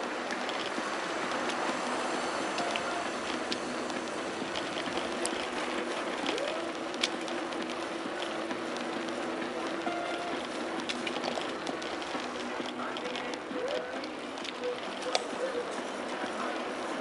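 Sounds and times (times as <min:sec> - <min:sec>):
bicycle riding wind and tyres: 0:00.0 - 0:17.0
small clicks and rattles: 0:00.1 - 0:17.0.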